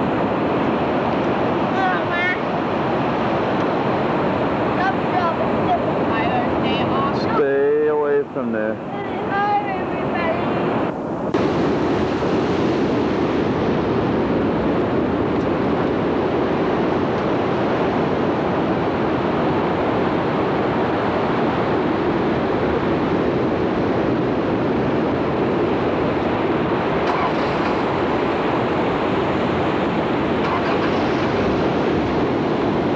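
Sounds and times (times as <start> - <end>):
ocean surf: 0.0 - 32.9
wind on microphone: 0.0 - 32.9.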